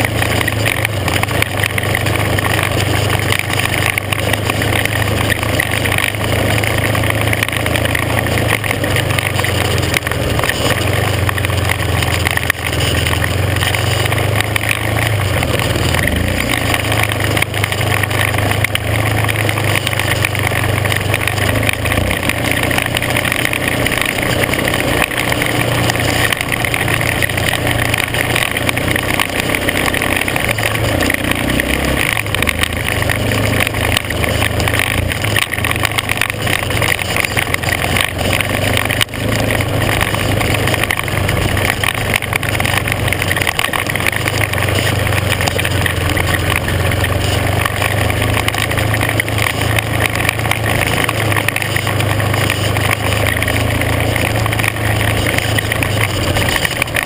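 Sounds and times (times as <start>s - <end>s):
constant rushing noise: 0.0s - 57.0s
off-road vehicle engine running: 0.0s - 57.0s.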